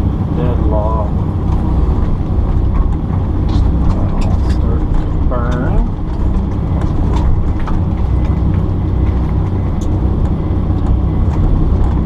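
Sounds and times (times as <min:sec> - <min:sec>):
excavator diesel engine running: 0:00.0 - 0:12.0
faint clicks and knocks: 0:01.4 - 0:12.0.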